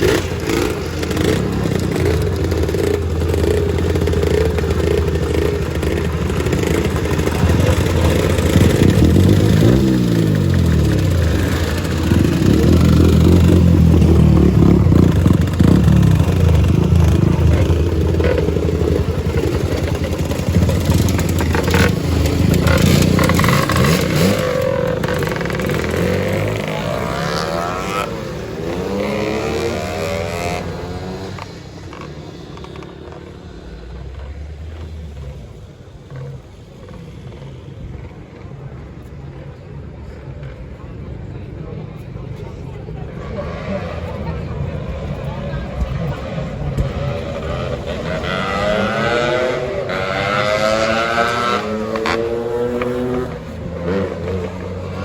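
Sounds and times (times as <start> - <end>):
scooter engines revving past: 0.0 - 55.0.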